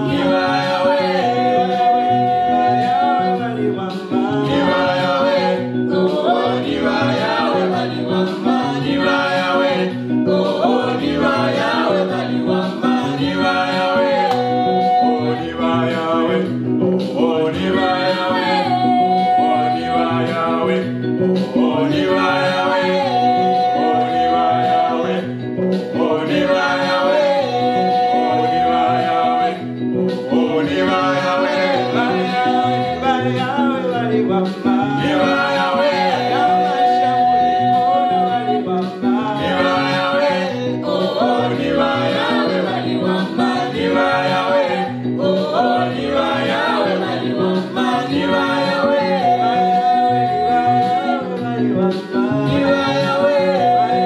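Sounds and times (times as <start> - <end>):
group singing gospel song: 0.0 - 54.0
keyboard with steady beat: 0.0 - 54.0.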